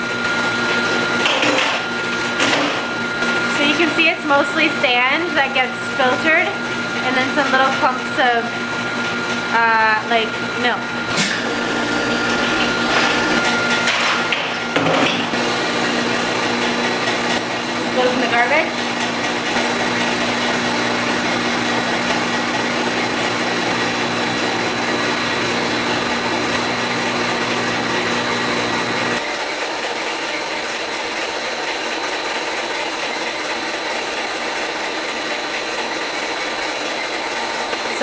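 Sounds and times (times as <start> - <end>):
low machine hum: 0.0 - 38.0
whining machine tones: 0.0 - 38.0.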